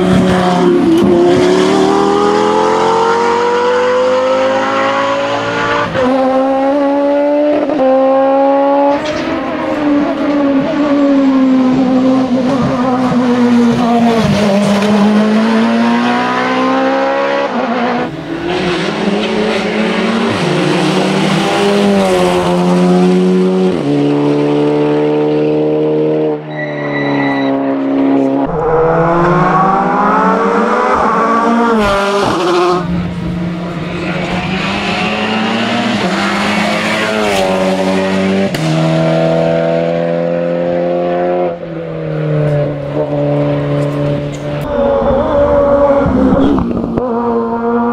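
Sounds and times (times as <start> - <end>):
racing car engines accelerating: 0.0 - 47.9.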